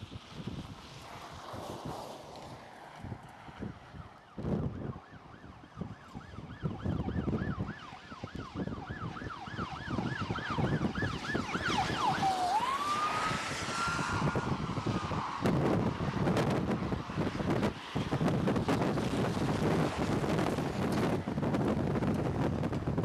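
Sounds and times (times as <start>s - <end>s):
wind buffeting microphone: 0.0s - 23.0s
emergency vehicle siren: 2.9s - 23.0s.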